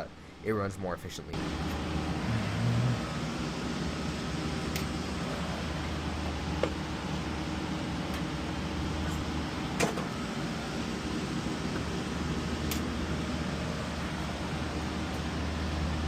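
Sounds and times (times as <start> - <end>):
hvac equipment humming: 0.0 - 16.0.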